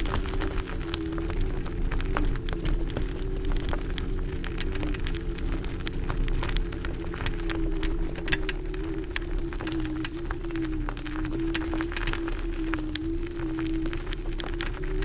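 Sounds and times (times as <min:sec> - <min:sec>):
gravel and frame clicks: 0:00.0 - 0:15.0.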